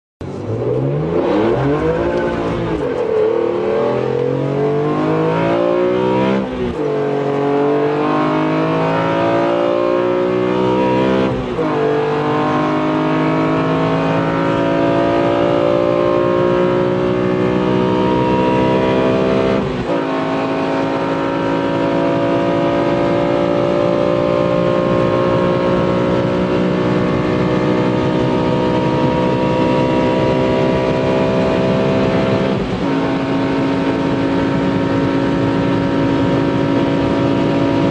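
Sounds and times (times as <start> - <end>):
car engine accelerating through gears: 0.2 - 37.9.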